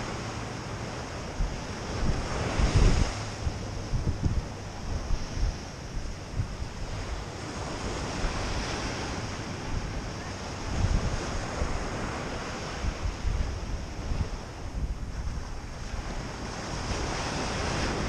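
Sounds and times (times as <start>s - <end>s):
small waves breaking on beach: 0.0s - 18.0s
wind buffeting microphone: 0.0s - 18.0s.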